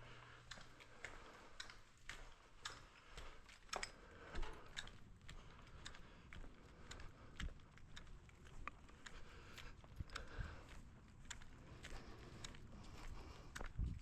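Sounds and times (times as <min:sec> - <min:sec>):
light clicks and taps: 0:00.4 - 0:14.0.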